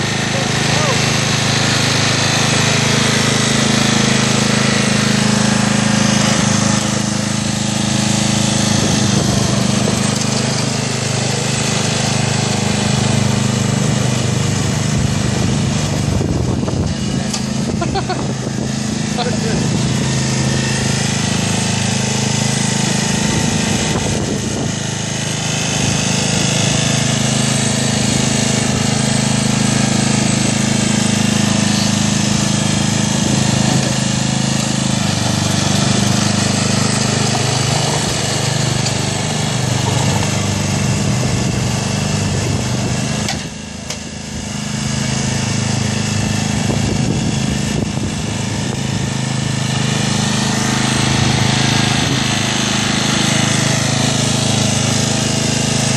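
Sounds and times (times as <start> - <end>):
lawn tractor engine running: 0.0 - 55.9.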